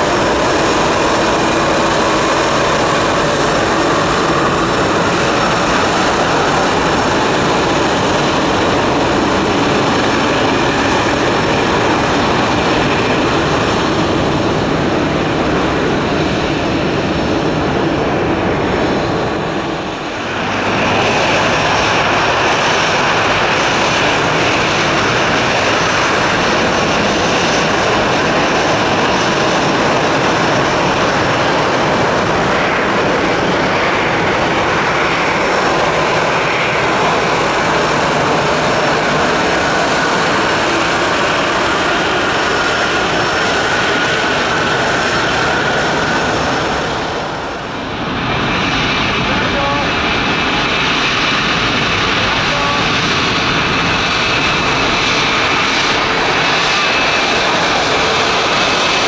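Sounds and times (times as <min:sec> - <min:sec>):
jet engines at taxi power: 0:00.0 - 0:59.0.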